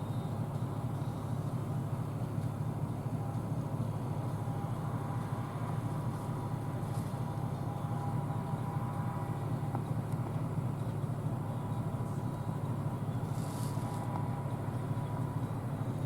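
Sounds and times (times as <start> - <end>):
combine harvester rumbling: 0.0 - 16.0
faint thin whine: 0.0 - 16.0.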